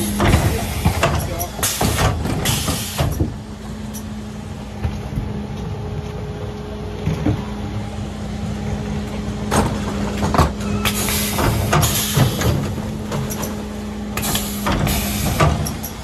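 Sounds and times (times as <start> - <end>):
refuse truck humming: 0.0 - 16.0.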